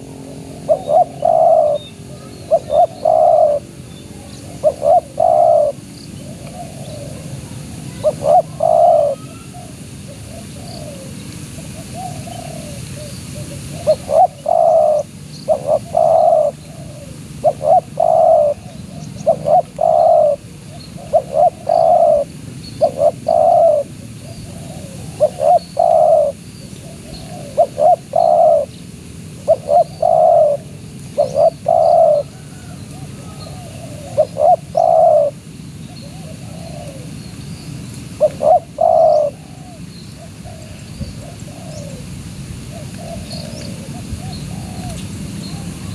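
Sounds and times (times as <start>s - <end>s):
dove cooing: 0.0s - 28.8s, 29.4s - 37.2s, 38.2s - 45.9s
small birds chirping: 0.0s - 42.0s.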